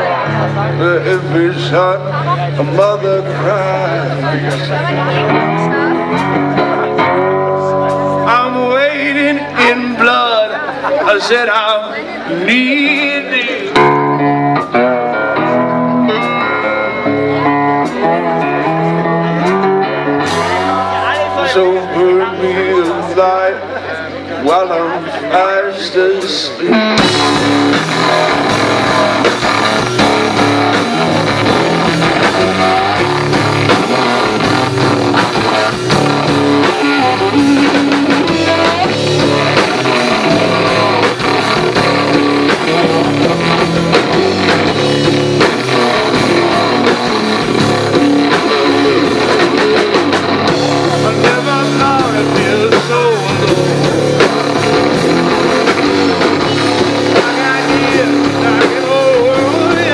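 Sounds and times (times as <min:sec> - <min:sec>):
drum kit: 0:00.0 - 0:10.5, 0:12.5 - 0:24.8, 0:25.4 - 0:59.9
bass guitar: 0:00.0 - 0:59.9
electric guitar: 0:00.0 - 0:59.9.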